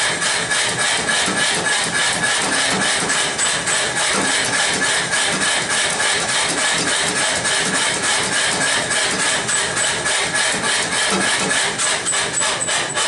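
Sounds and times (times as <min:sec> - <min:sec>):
machine whine: 0:00.0 - 0:13.0
power hammer striking steel: 0:00.0 - 0:13.0.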